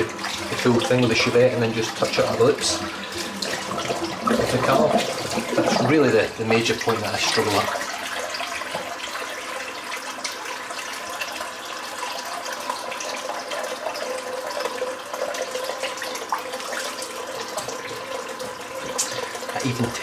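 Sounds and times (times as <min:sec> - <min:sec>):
tap running into a sink: 0:00.0 - 0:09.3, 0:12.4 - 0:20.0.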